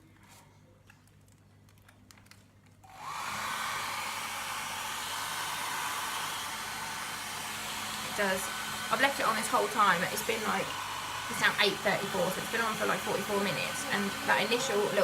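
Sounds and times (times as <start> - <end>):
hairdryer blowing: 2.8 - 15.0.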